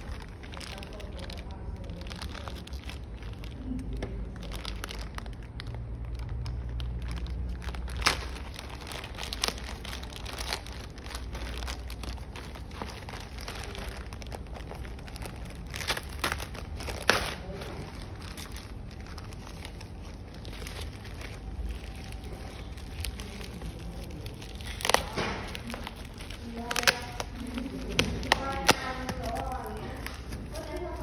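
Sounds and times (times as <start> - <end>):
low steady hum: 0.0 - 31.0
packaging crinkling and rustling: 0.0 - 31.0.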